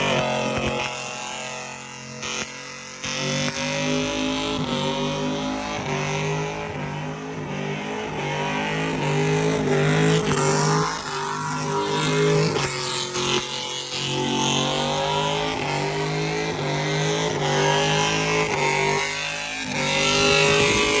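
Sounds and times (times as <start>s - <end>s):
engine revving hard: 0.0s - 21.0s.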